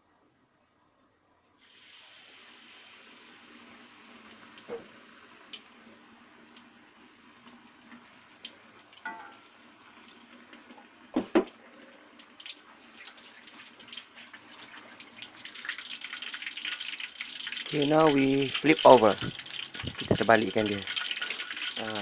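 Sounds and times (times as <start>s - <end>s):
food frying in hot oil: 1.6s - 22.0s.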